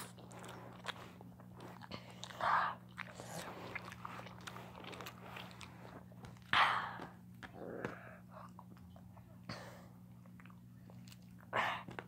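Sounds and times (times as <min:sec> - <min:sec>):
person chewing: 0:00.0 - 0:09.1, 0:10.1 - 0:11.5
faint low hum: 0:00.0 - 0:12.0.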